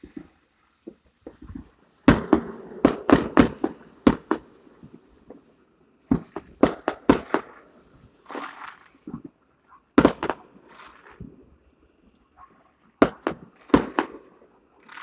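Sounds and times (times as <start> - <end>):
fireworks bangs: 0.0 - 11.7, 12.3 - 15.0.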